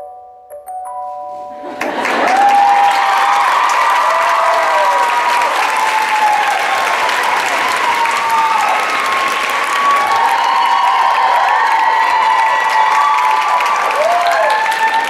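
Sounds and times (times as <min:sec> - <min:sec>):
audience applauding: 0:01.8 - 0:15.0
high whoops and calls: 0:02.2 - 0:15.0.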